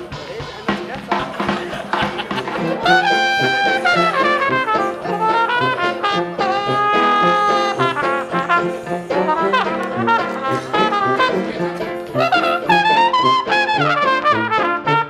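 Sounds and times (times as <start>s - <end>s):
jazzy brass band playing: 0.0s - 15.0s.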